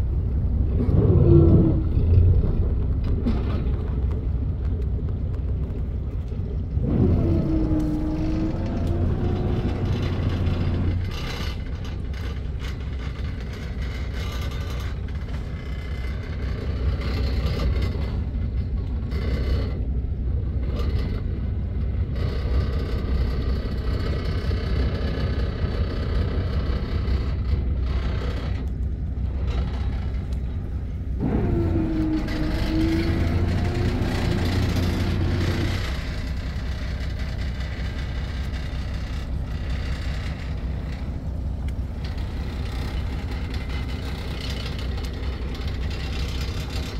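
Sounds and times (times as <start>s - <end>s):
boat engine rumble: 0.0s - 46.9s.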